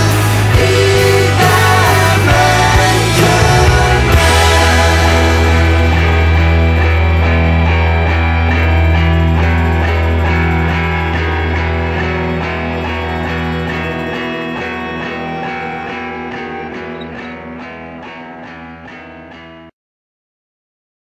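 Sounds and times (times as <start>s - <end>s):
plucked guitar notes: 0.0s - 19.7s.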